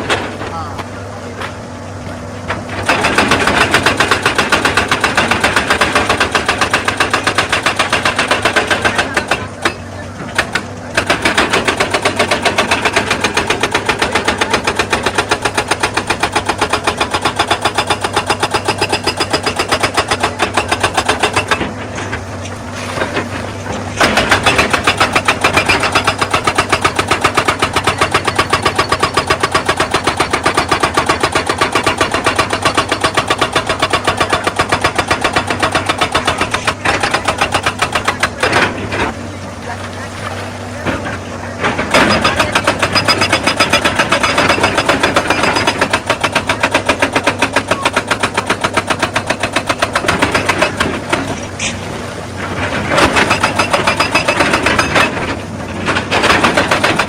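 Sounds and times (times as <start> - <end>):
hydraulic breaker hammering stone: 0.0 - 1.6, 2.5 - 39.5, 40.4 - 57.0
diesel engine running: 0.0 - 57.0.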